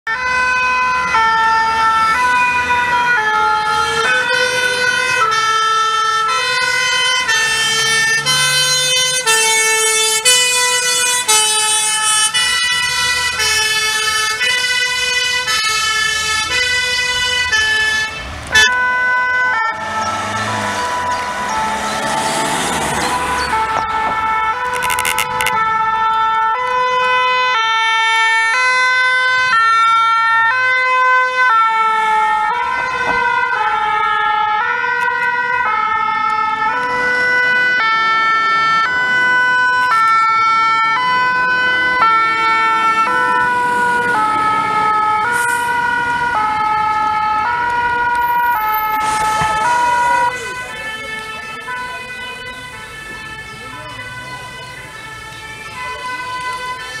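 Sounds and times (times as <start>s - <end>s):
two-tone fire engine sirens: 0.0s - 57.0s.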